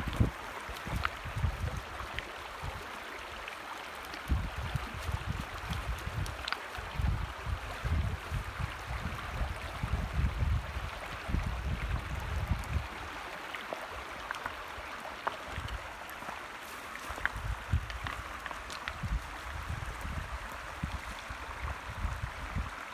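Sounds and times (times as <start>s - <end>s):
creek flowing over rocks: 0.0s - 22.9s.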